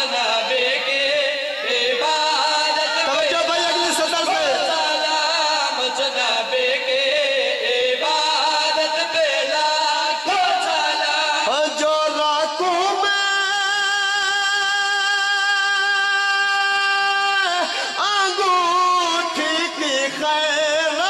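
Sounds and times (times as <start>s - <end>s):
man singing through microphone: 0.0s - 21.0s.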